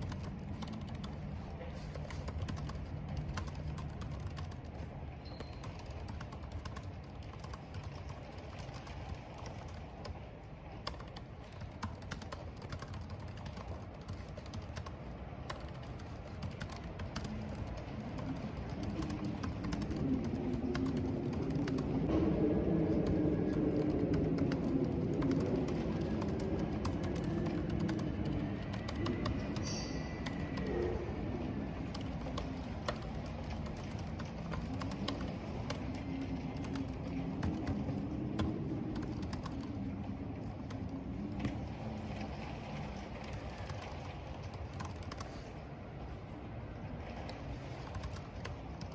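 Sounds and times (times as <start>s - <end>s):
typing on computer keyboard: 0.0s - 4.8s, 5.4s - 10.2s, 10.8s - 22.0s, 23.0s - 30.8s, 31.9s - 39.8s, 43.2s - 45.4s, 47.8s - 48.9s
rain and wind rushing: 0.0s - 48.9s.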